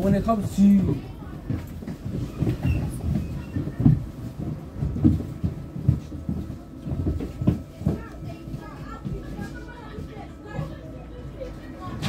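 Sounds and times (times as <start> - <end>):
bus body rattling: 0.0 - 12.0
bus engine and road rumble: 0.0 - 12.0.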